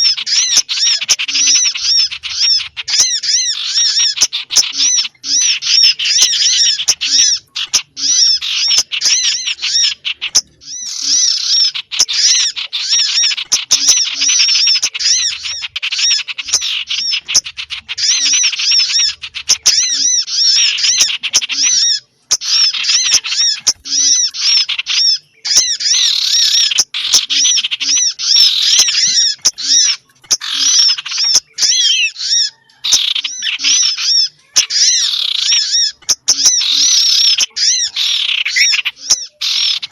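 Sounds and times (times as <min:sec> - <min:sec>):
small songbirds chirping and twittering: 0:00.0 - 0:39.9.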